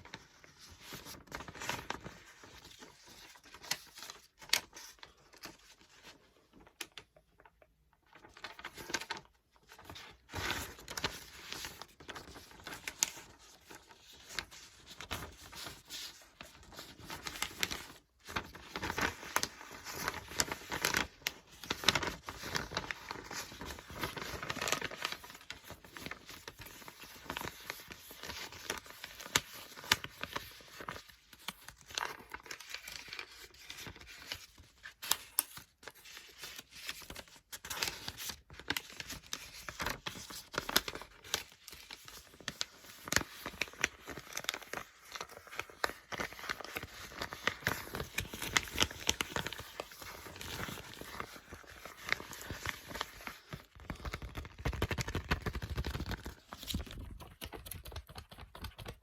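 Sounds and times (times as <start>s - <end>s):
book pages turning: 8.2s - 59.0s.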